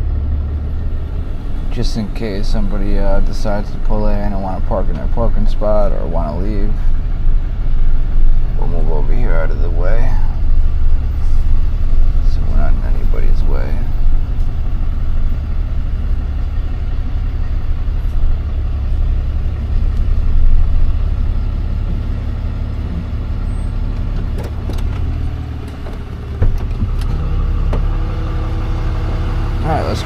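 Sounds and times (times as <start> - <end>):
tow truck engine running: 0.0 - 30.0.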